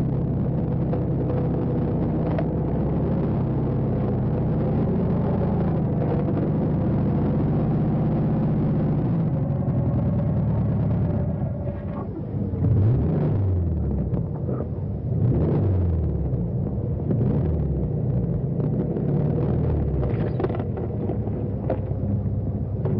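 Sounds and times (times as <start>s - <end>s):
car engine running: 0.0s - 22.9s.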